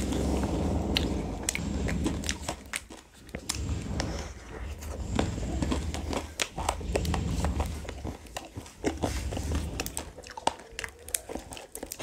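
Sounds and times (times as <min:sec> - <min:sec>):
wet chewing sounds: 0:00.0 - 0:12.0.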